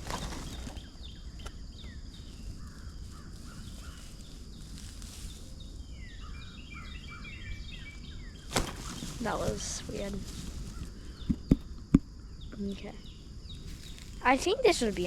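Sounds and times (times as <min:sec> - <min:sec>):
wild birds chirping: 0:00.0 - 0:15.0
wind rumble on microphone: 0:00.0 - 0:15.0.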